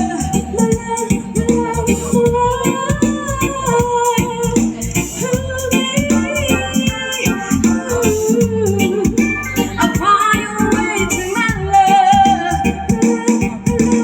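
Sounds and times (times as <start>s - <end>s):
upbeat music with percussion: 0.0s - 14.0s.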